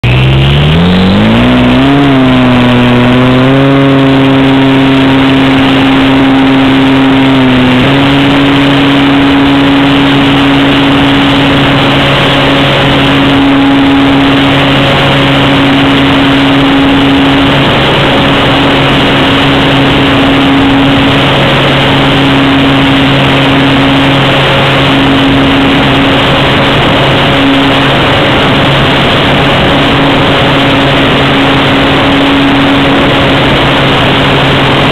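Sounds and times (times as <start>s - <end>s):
electric motor whine: 0.0s - 34.9s.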